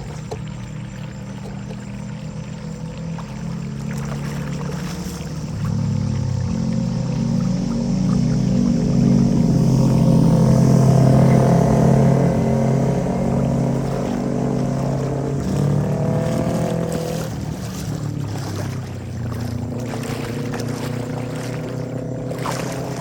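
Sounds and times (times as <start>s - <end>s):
large engine running: 0.0s - 23.0s.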